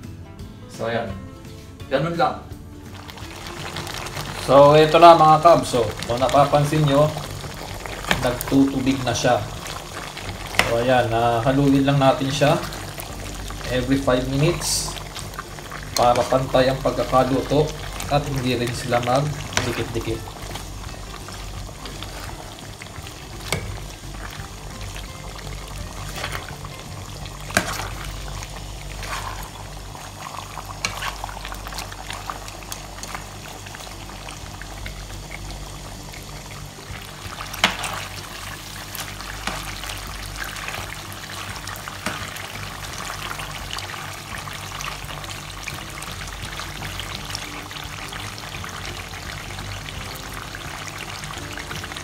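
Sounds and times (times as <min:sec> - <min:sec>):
chicken skins sizzling and crackling: 0:02.6 - 0:52.0.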